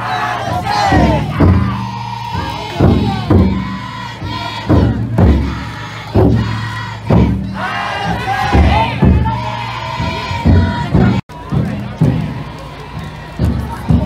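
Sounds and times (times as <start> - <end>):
crowd chanting and shouting: 0.0 - 14.0
big drum struck heavily: 0.5 - 12.4.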